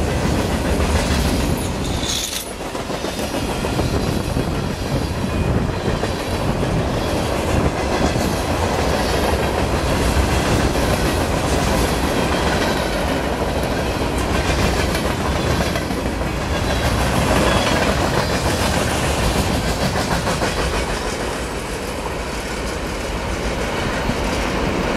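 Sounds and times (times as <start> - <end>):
freight train wheels on rails: 0.0 - 24.9.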